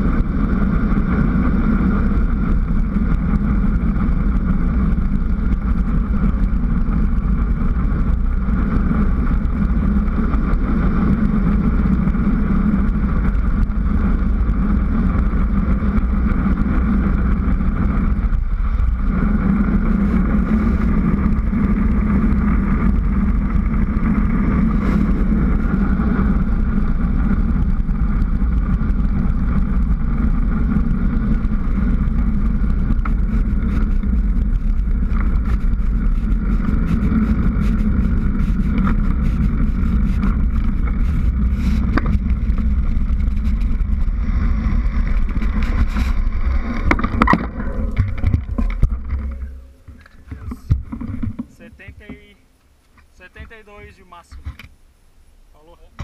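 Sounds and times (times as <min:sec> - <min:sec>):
wind rushing over microphone: 0:00.0 - 0:52.4
tyre noise on asphalt: 0:00.0 - 0:56.0.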